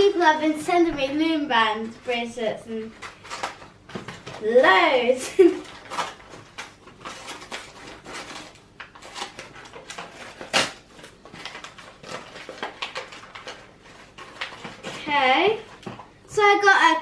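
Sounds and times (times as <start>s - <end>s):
plastic packaging clicks and rustles: 1.8s - 16.2s.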